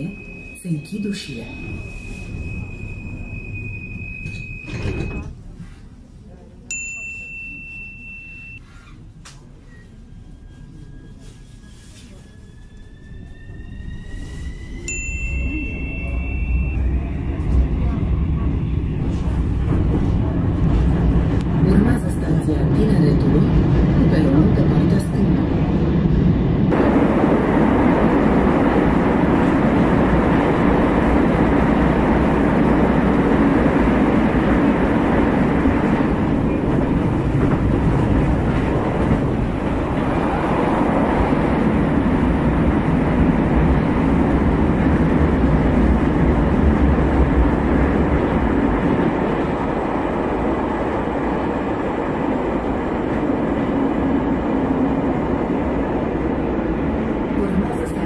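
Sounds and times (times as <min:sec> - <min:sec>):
metro train running on rails: 0:00.0 - 0:58.0.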